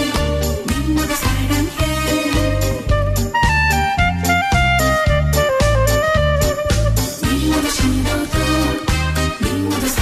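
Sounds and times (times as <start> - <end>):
lead melody: 0.0 - 9.8
bass beat: 0.0 - 10.0
instrumental pop song: 0.0 - 10.0.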